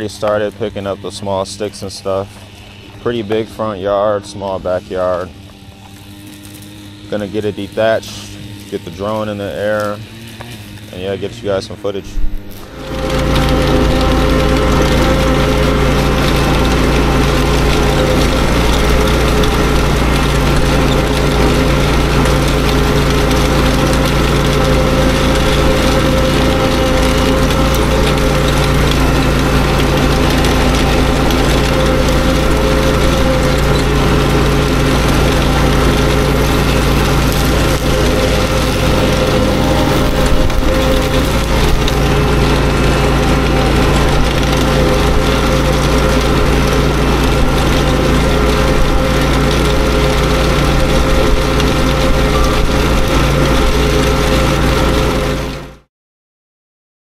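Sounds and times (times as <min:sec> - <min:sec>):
small engine running: 0:00.0 - 0:55.9
tines raking grass: 0:00.0 - 0:55.9.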